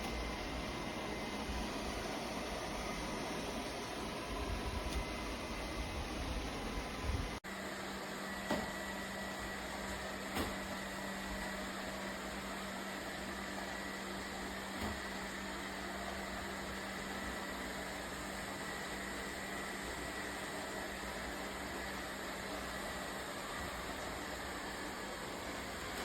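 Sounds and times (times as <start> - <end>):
robot vacuum cleaner whirring: 0.0 - 26.0.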